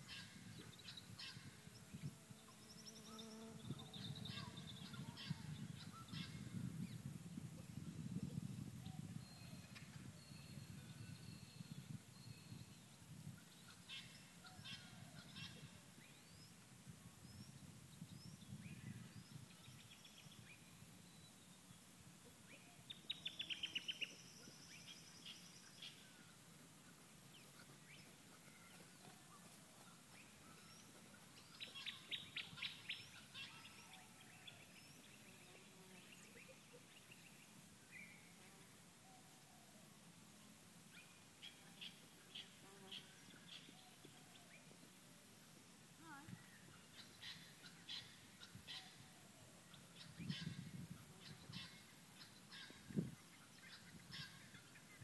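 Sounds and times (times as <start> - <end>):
faint wild birdsong: 0.0 - 55.0.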